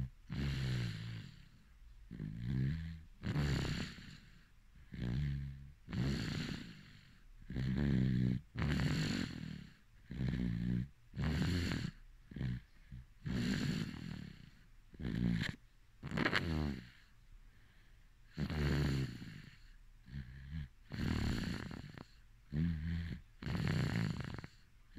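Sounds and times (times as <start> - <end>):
person snoring: 0.0 - 17.1, 18.3 - 24.6.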